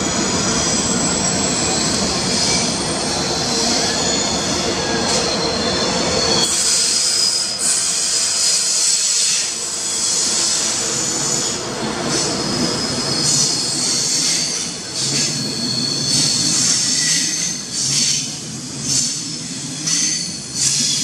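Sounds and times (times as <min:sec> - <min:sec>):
train rumbling: 0:00.0 - 0:21.0
high-pitched metallic squealing: 0:00.1 - 0:21.0.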